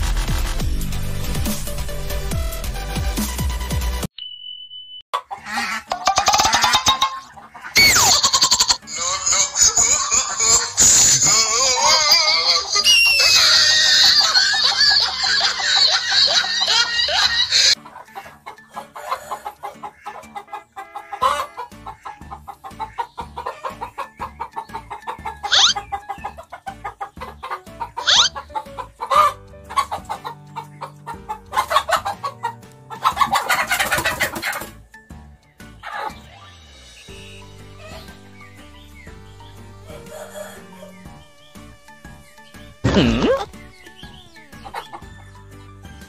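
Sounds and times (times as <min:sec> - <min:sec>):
background music: 0:00.0 - 0:04.1, 0:05.2 - 0:46.0
chickens clucking and squawking: 0:05.2 - 0:46.0.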